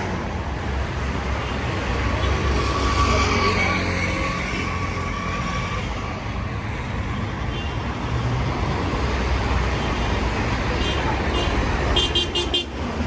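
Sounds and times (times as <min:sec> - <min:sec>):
vehicles passing: 0:00.0 - 0:13.0.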